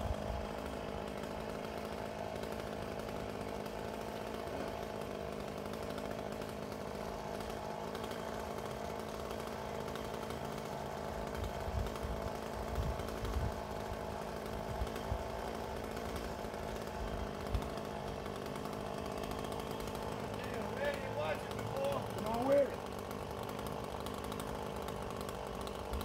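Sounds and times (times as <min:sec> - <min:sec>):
chainsaw running: 0:00.0 - 0:26.0.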